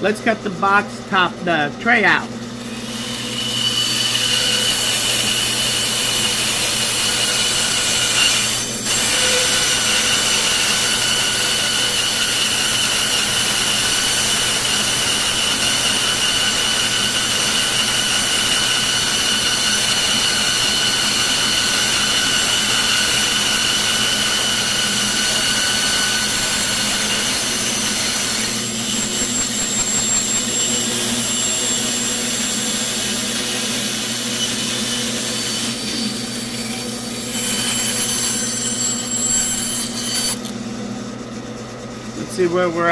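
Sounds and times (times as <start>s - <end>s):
bandsaw cutting wood: 0.0s - 40.6s.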